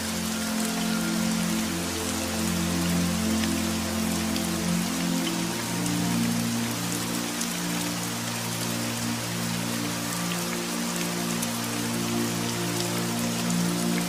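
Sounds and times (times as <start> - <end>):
rain pattering: 0.0 - 14.0
soft ambient music: 0.0 - 14.0.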